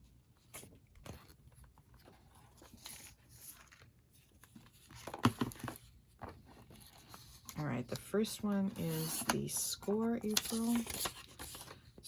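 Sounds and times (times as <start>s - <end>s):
paper rustling: 0.4s - 12.0s.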